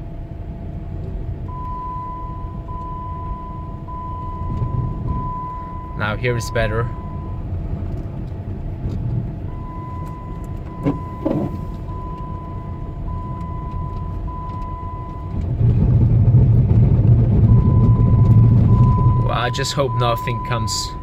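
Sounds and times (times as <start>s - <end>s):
tyre and engine rumble: 0.0s - 21.0s.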